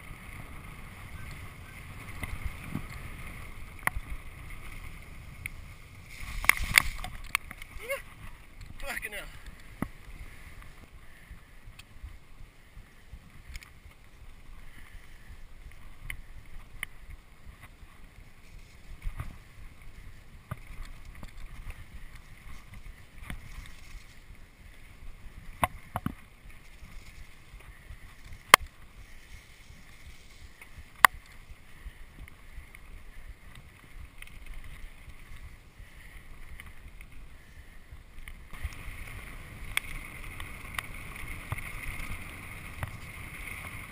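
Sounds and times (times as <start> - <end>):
bike tyres rumbling on dirt trail: 0.0 - 43.9.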